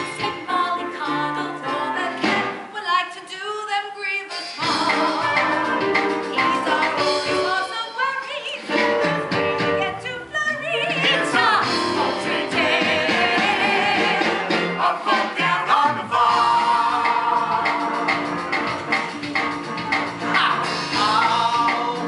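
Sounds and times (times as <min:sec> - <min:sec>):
instrumental accompaniment: 0:04.3 - 0:22.0.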